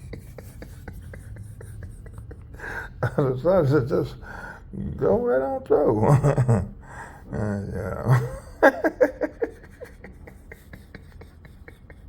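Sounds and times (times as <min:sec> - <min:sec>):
man laughing: 0:00.0 - 0:12.0.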